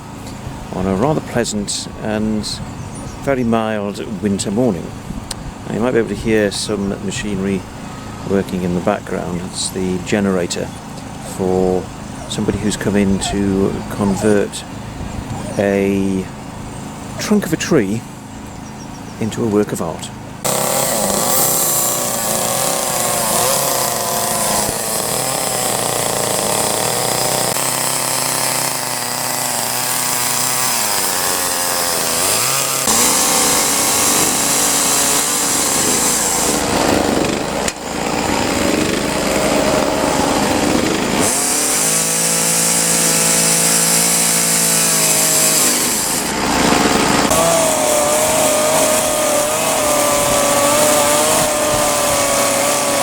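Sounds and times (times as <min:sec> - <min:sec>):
chainsaw cutting wood: 0:04.9 - 0:17.4, 0:20.4 - 0:53.0.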